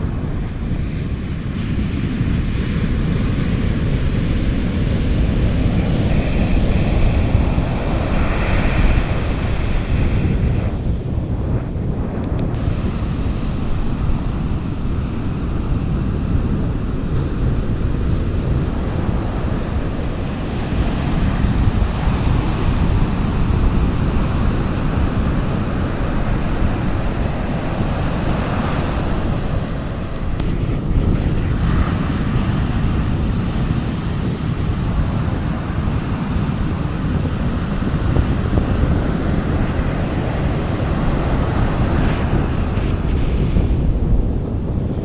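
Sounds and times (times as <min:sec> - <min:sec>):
sea waves washing onto beach: 0:00.0 - 0:45.0.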